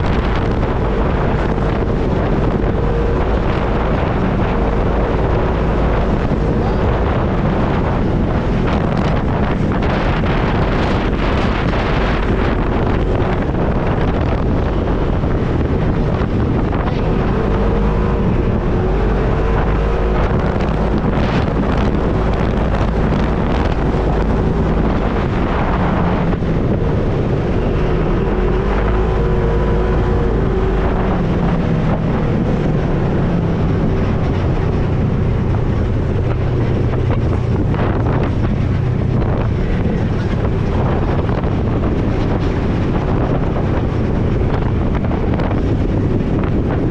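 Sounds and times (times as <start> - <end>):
vehicle engine running: 0.0 - 46.9
wind buffeting microphone: 0.0 - 46.9.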